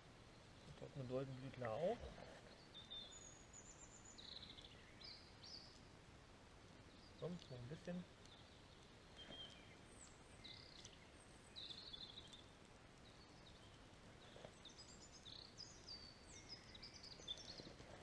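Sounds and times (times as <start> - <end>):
songbird chirps and trills: 0.0 - 18.0.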